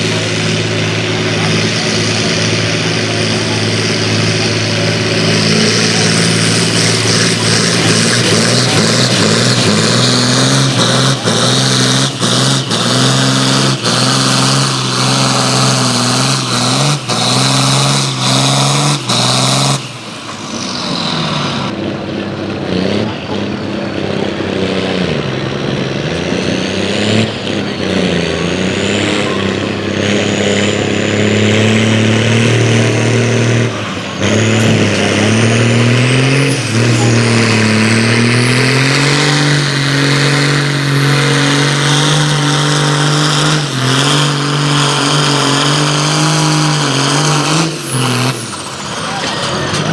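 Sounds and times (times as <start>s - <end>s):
engine clatter: 0.0s - 49.9s
pulling vehicle engine revving: 0.0s - 49.9s.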